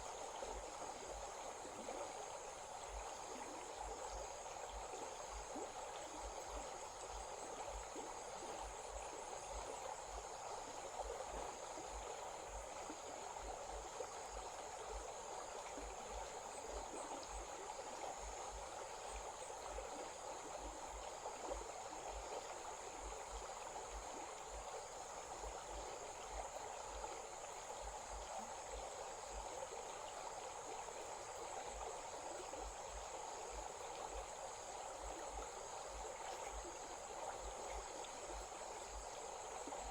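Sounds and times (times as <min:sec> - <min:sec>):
insects droning: 0:00.0 - 0:39.9
stream flowing: 0:00.0 - 0:39.9.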